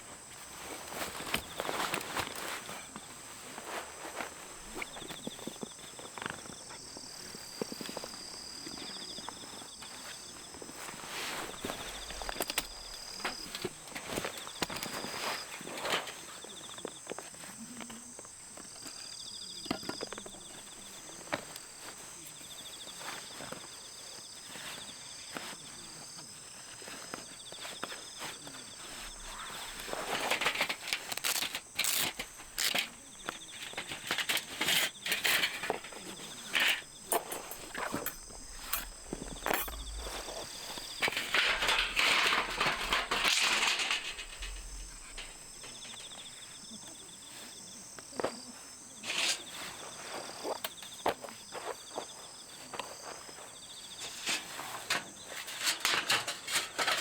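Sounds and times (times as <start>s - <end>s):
crickets chirping: 0.0s - 57.0s
rustling and crunching: 0.0s - 57.0s.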